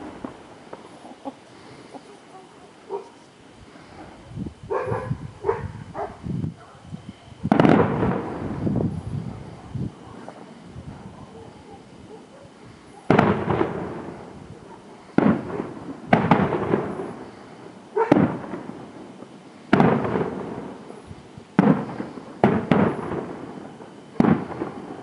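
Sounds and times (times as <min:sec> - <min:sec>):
fireworks bursting with echo: 0:00.0 - 0:03.0, 0:07.4 - 0:25.0.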